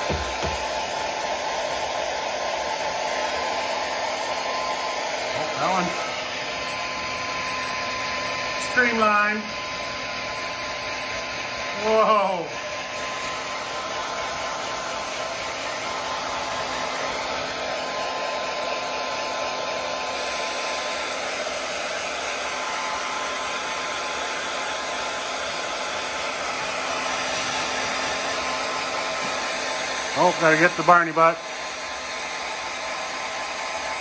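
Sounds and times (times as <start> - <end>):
hair dryer blowing air: 0.0 - 34.0.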